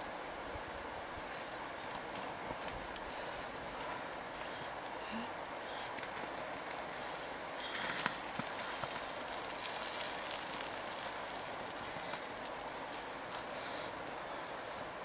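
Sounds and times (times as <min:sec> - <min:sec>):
wood fire crackling and sizzling: 0:00.0 - 0:15.0.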